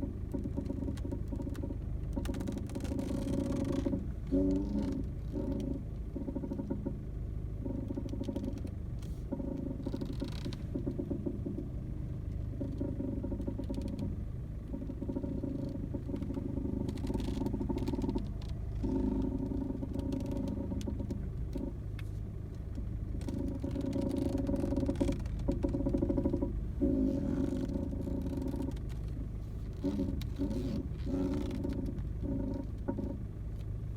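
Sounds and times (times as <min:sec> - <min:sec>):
steady low rumble: 0:00.0 - 0:33.9
steering creaking and rubbing: 0:00.0 - 0:33.9.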